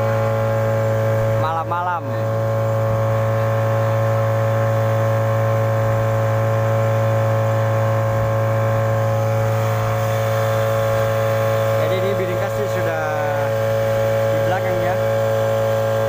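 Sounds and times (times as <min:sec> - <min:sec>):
outboard motor droning: 0:00.0 - 0:16.0.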